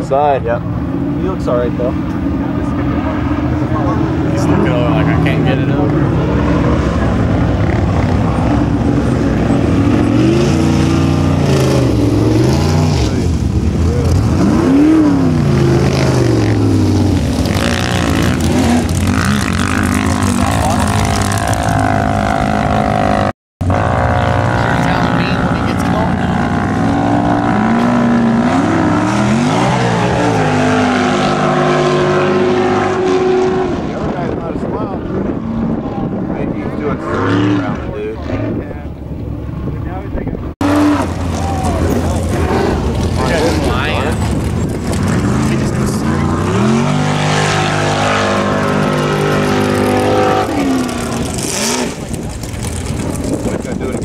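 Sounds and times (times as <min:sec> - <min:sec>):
engine running and revving: 0:00.0 - 0:54.0.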